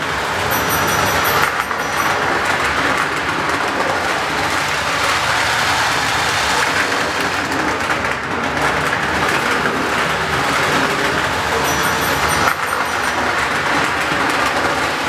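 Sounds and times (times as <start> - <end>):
model train rumbling on rails: 0.0 - 15.0.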